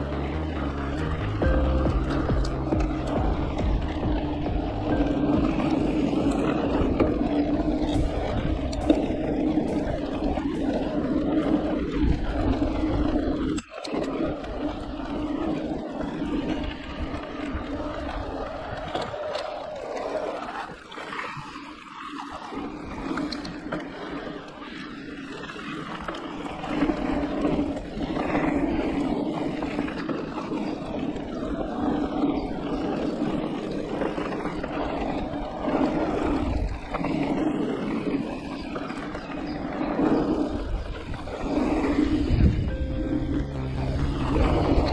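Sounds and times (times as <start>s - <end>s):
wind buffeting microphone: 0.0s - 21.6s, 22.5s - 44.9s
tyres rolling over dirt: 0.0s - 44.9s.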